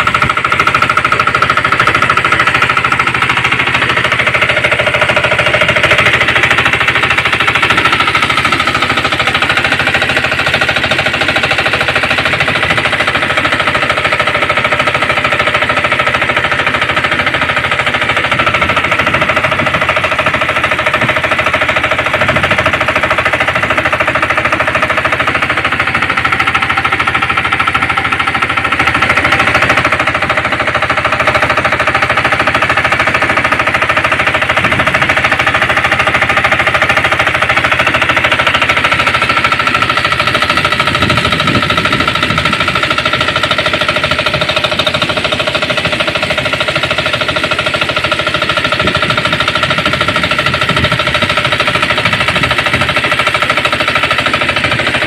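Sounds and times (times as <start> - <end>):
water pump engine knocking: 0.0 - 55.0.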